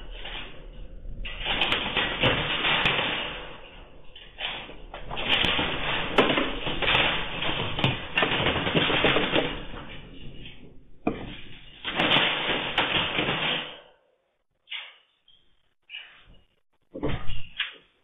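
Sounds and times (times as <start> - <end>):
room rattling and knocking: 0.0 - 18.0.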